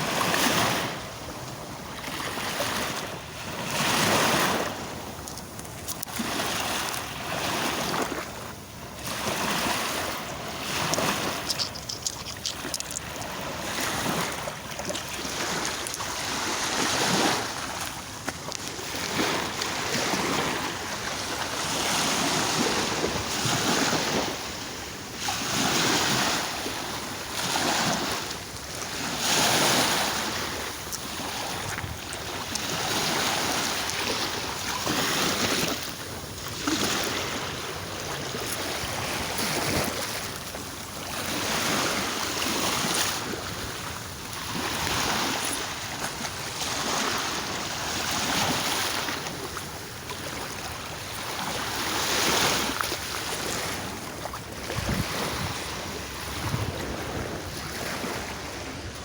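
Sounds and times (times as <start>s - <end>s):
sea waves washing onto shore: 0.0s - 59.0s.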